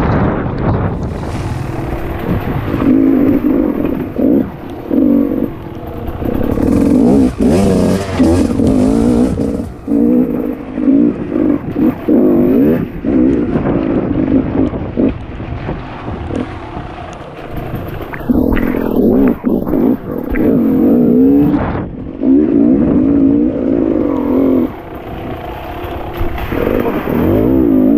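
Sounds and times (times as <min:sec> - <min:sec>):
dirt bike engine revving: 0:00.9 - 0:27.9.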